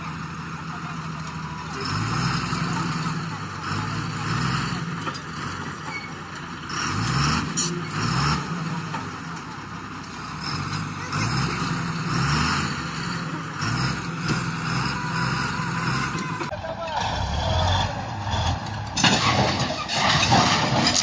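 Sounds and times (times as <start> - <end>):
heavy diesel engine revving: 0.0 - 21.0.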